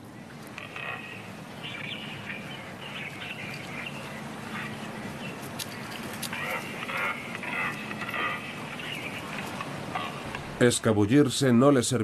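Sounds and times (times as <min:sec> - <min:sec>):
seabirds calling: 0:00.0 - 0:10.9
steady low hum: 0:00.0 - 0:12.0.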